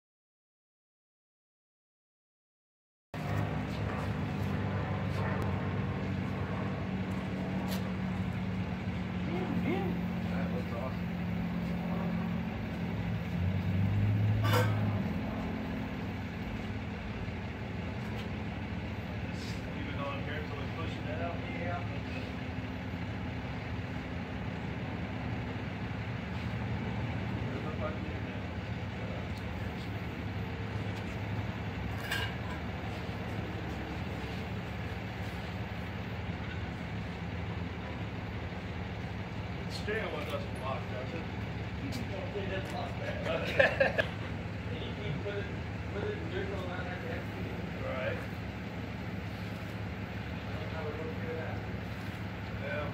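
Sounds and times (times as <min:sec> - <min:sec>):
vehicle engine idling: 0:03.2 - 0:52.9.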